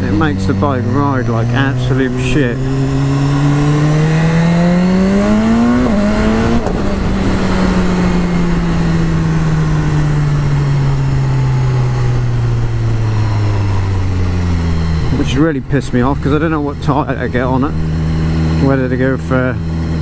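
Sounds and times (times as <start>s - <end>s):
wind rush: 0.0s - 18.6s
motorcycle engine accelerating: 0.0s - 20.0s.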